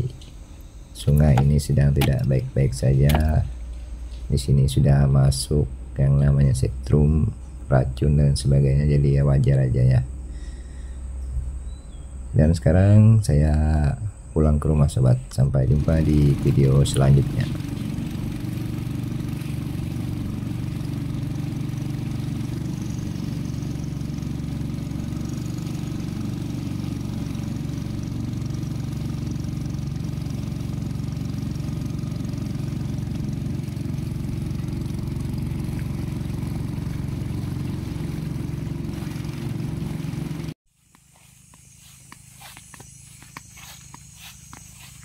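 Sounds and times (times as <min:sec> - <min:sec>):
boat motor running: 0:00.0 - 0:12.1, 0:15.4 - 0:45.0.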